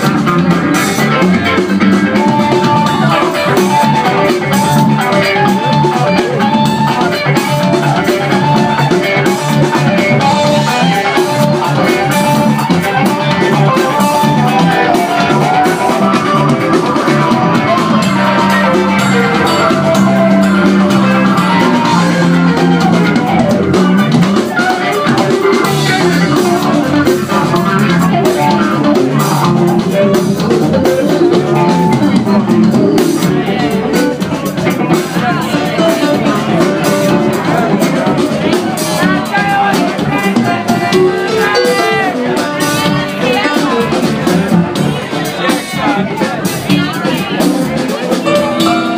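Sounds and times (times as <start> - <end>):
live funk band playing: 0.0 - 48.9.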